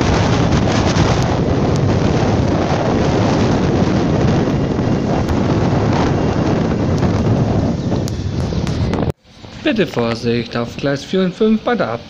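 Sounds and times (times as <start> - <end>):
diesel railcars running: 0.0 - 12.0
wind buffeting microphone: 0.0 - 12.0.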